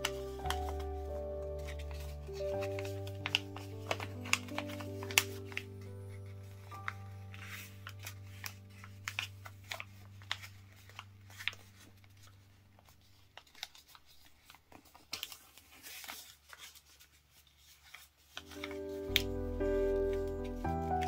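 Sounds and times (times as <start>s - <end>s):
paper folding and crinkling: 0.0s - 21.0s.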